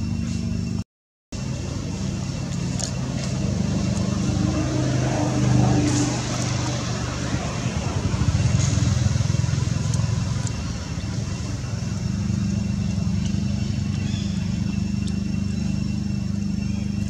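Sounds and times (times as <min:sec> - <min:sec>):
motor engine humming: 0:01.4 - 0:17.0.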